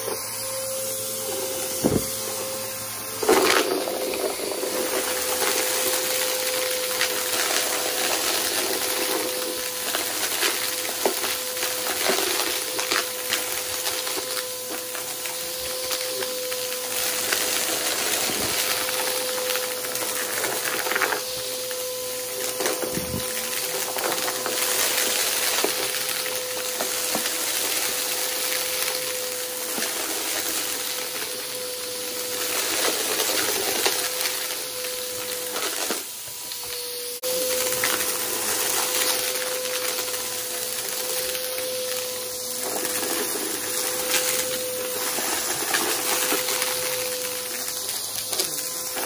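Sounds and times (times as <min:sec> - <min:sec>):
vacuum cleaner motor whine: 0:00.0 - 0:49.0
debris crackling being sucked up: 0:01.2 - 0:49.0.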